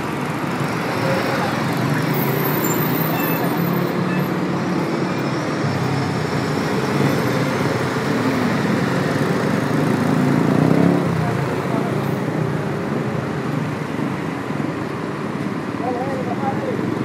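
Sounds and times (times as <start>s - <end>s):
heavy city traffic: 0.0s - 17.0s.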